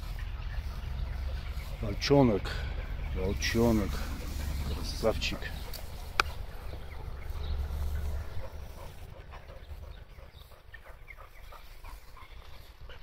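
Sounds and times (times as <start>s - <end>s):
low rumble: 0.0s - 11.3s
dogs ticks and rustles: 0.0s - 13.0s.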